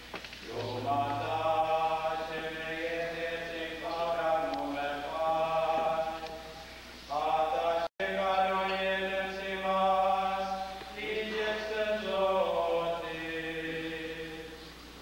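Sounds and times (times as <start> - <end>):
slow chant in long notes: 0.4 - 14.7.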